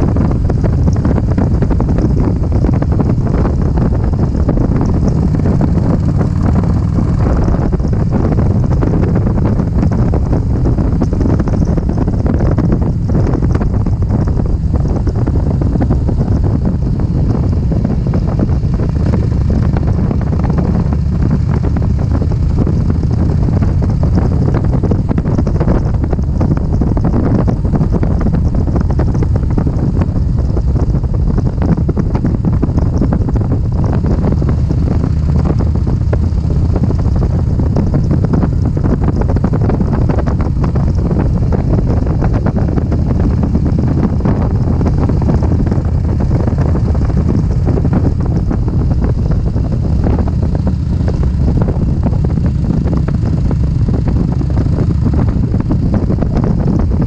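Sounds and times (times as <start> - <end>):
engine and road drone: 0.0 - 57.0
wind rushing over microphone: 0.0 - 57.0.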